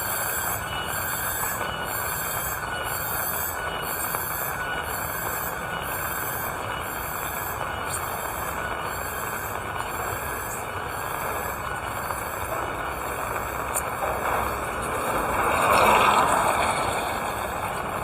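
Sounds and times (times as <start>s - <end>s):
high pulsing chirp: 0.0s - 18.0s.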